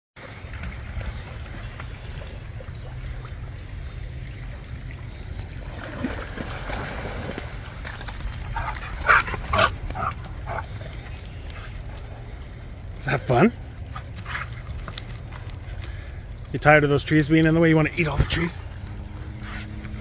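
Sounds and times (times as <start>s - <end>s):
steady low rumble: 0.2s - 20.0s.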